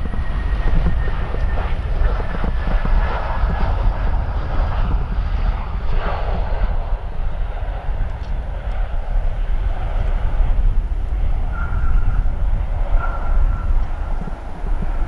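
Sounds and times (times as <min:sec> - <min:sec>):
airliner jet engines landing: 0:00.0 - 0:15.0.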